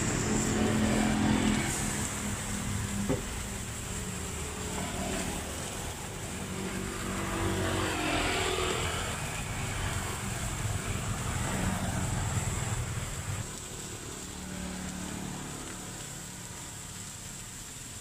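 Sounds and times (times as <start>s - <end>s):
vehicle passing: 0.0s - 17.0s
low traffic rumble: 0.0s - 18.0s
patties sizzling on griddle: 0.0s - 18.0s.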